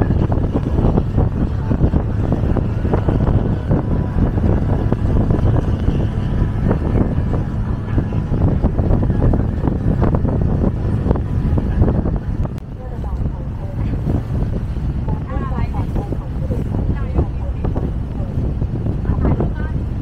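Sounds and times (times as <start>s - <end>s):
boat engine rumble: 0.0s - 20.0s
wind buffeting microphone: 0.0s - 20.0s.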